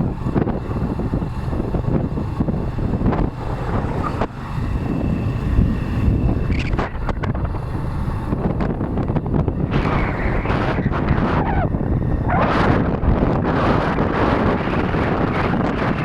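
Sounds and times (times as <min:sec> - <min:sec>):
motorcycle engine and road noise: 0:00.0 - 0:16.0
wind buffeting microphone: 0:00.0 - 0:16.0.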